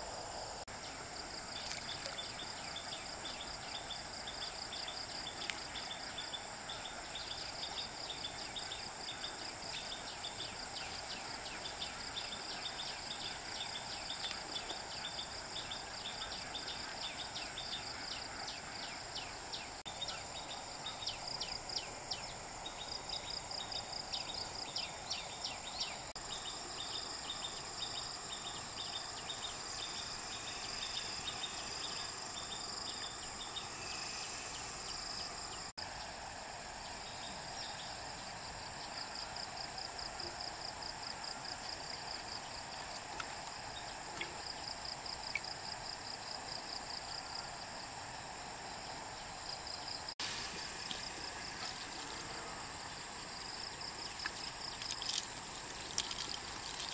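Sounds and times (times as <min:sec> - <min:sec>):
background hiss: 0:00.0 - 0:56.9
insects chirping quickly: 0:00.0 - 0:56.9
insects trilling: 0:00.0 - 0:56.9.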